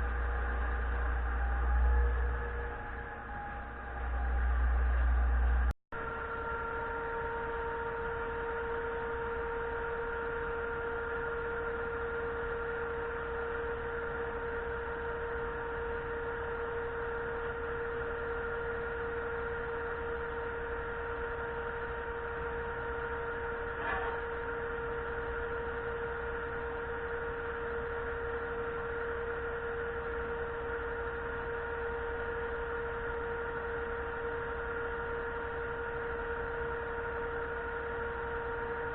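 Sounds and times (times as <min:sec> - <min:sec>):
machine hum with whine: 0:00.0 - 0:38.9.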